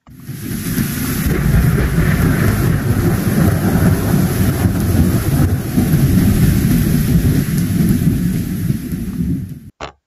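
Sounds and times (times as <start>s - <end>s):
wind: 0.0s - 10.0s
thunder rumble: 0.1s - 9.7s.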